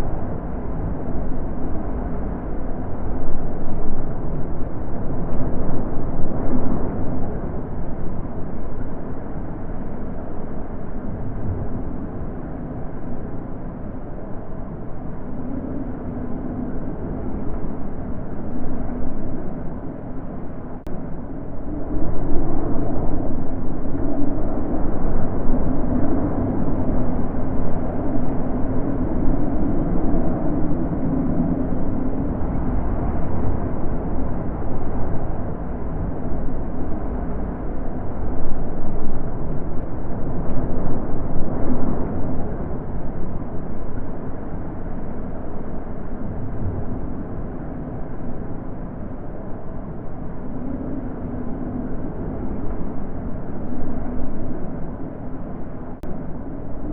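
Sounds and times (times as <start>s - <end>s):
wind blowing with hollow howl: 0.0s - 56.9s.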